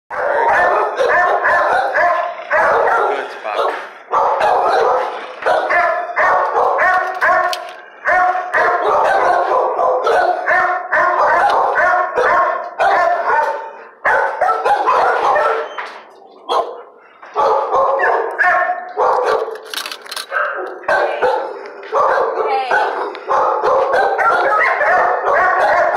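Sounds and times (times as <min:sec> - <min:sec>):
dogs barking: 0:00.1 - 0:25.9.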